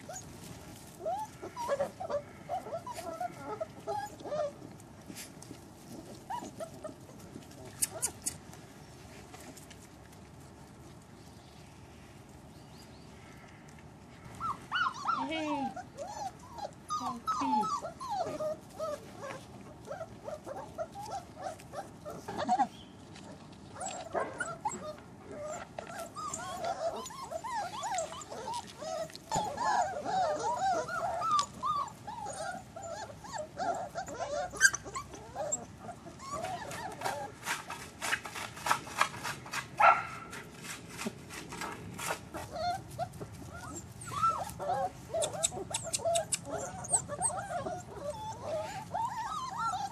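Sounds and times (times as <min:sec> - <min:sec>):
puppies whimpering and yipping: 0:00.0 - 0:08.6, 0:14.2 - 0:39.1, 0:42.0 - 0:49.9.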